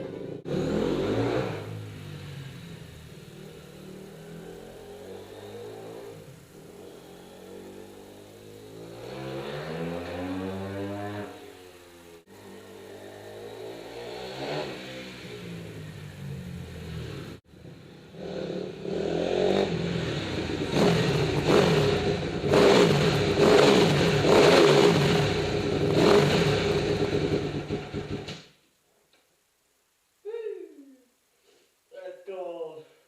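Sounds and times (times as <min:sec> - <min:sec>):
motorcycle engine revving: 0:00.0 - 0:28.4.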